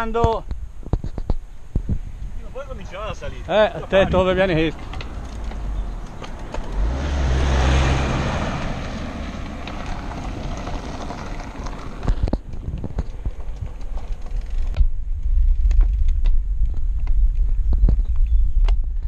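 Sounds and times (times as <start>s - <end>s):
tyre and road rumble: 0.0s - 19.0s
wind rushing over microphone: 0.0s - 19.0s.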